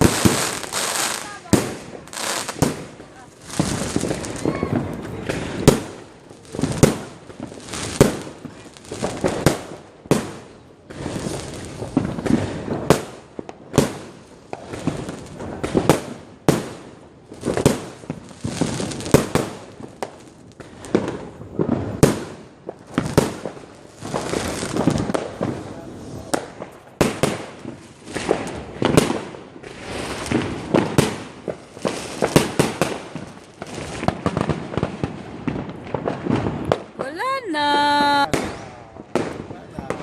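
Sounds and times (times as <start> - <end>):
firework bangs: 0.0 - 40.0.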